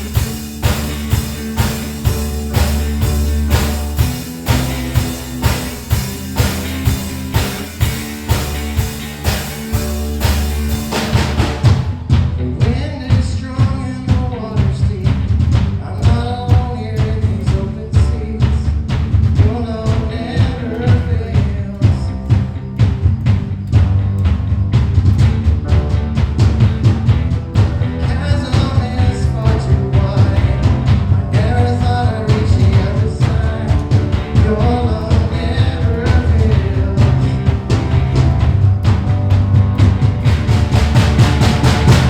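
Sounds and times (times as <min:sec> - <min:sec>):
worship band playing: 0:00.0 - 0:18.2, 0:18.9 - 0:42.0
drum kit steady beat: 0:00.0 - 0:42.0.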